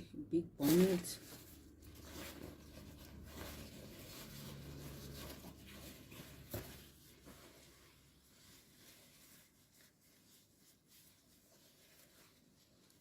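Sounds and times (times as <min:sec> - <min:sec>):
faint fabric rustling: 0:00.4 - 0:13.0.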